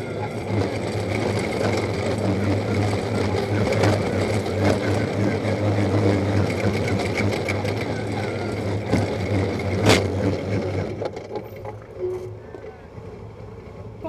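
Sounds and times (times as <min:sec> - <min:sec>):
machine rattling: 0:00.0 - 0:13.1
off-road vehicle engine running: 0:00.0 - 0:14.0.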